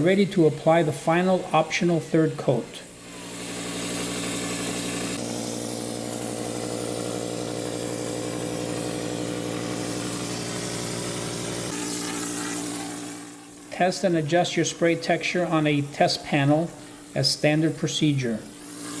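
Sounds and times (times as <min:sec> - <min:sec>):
spray rig motor running: 0:00.0 - 0:19.0
air hissing: 0:02.8 - 0:19.0.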